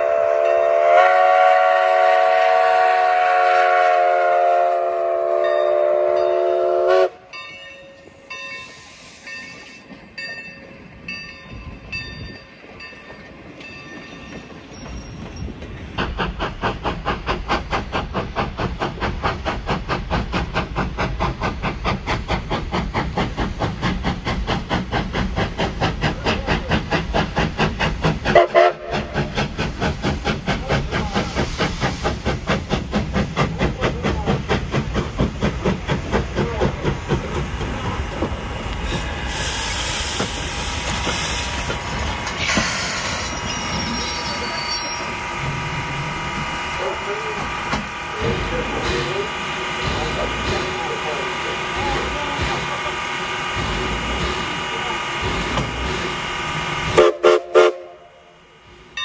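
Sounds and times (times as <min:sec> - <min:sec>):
steam hissing: 0:00.0 - 0:07.2, 0:08.5 - 0:10.0, 0:13.9 - 0:59.0
steam locomotive chuffing: 0:00.0 - 0:07.3, 0:08.0 - 0:59.0.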